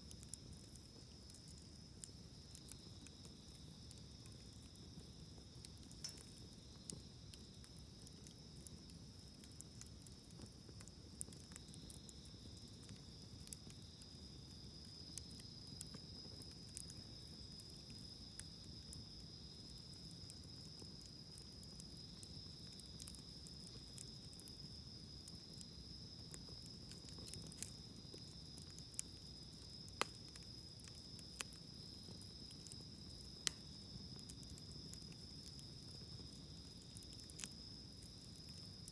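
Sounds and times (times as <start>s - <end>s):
campfire crackling and popping: 0.0s - 38.9s
insects trilling: 0.0s - 38.9s.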